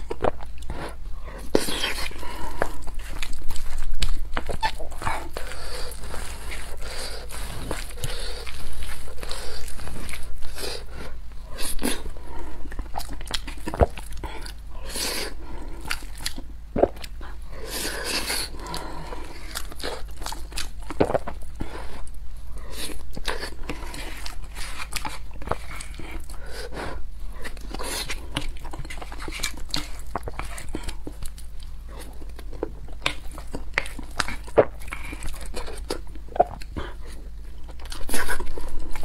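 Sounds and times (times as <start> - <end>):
person chewing and smacking: 0.0 - 39.0.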